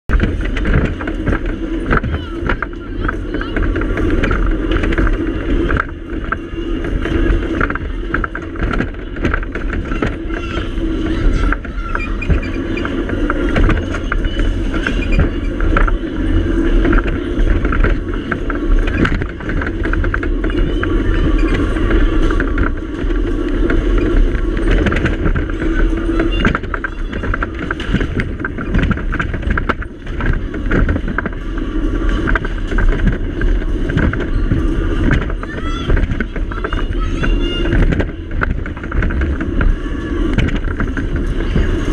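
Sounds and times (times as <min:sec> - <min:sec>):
dodgem car rumbling: 0:00.0 - 0:41.9
knocks and rattles: 0:00.0 - 0:41.9.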